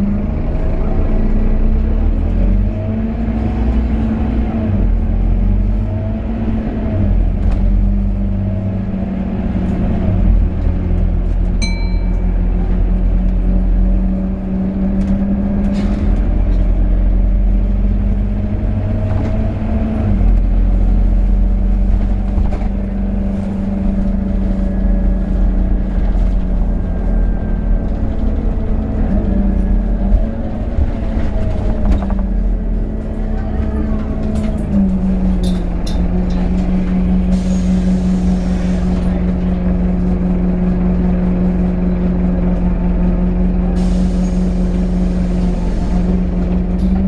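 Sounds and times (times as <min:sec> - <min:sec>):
bus diesel engine drone: 0:00.0 - 0:47.0.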